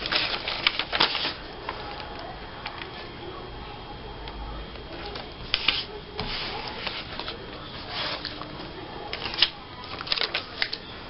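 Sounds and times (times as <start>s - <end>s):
magazine paper rustling: 0.0s - 3.1s, 5.0s - 10.8s.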